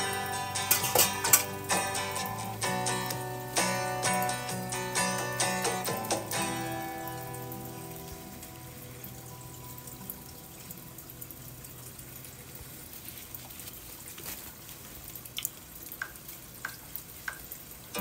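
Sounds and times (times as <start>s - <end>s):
water trickling and dripping: 0.0s - 18.0s.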